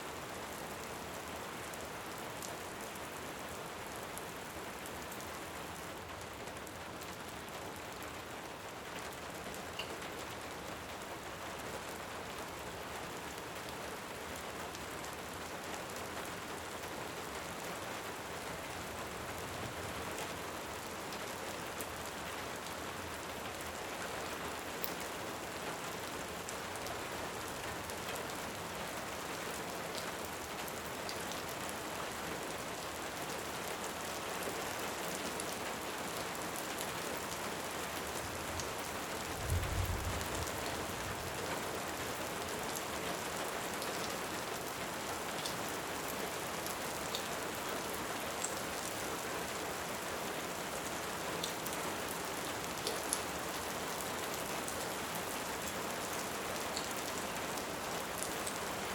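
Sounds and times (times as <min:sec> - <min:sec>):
dense rainfall: 0:00.0 - 0:58.9.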